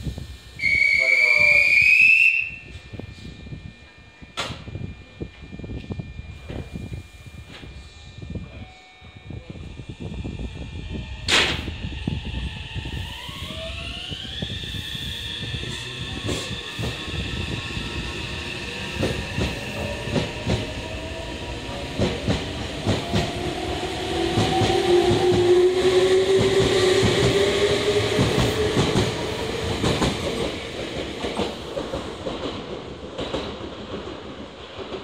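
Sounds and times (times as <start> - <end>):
train motor whine: 0.0 - 32.4.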